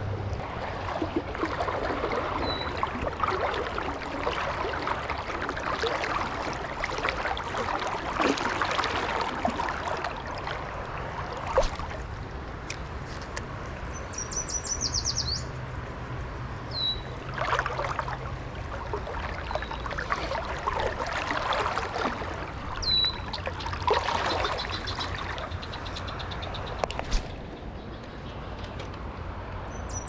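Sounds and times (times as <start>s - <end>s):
rushes of water noise: 0.0s - 30.0s
songbirds calling: 1.6s - 12.0s, 13.7s - 30.0s.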